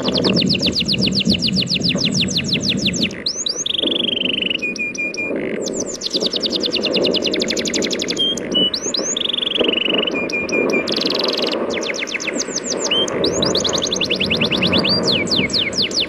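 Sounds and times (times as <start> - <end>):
songbird singing trills: 0.0 - 16.0.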